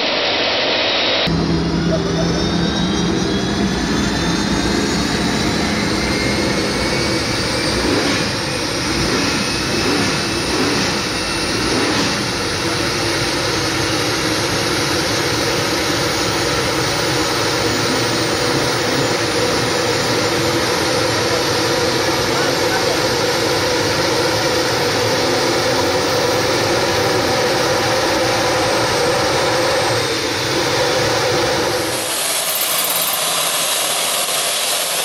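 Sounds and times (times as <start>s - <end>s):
gas turbine engine idling: 1.1s - 35.0s.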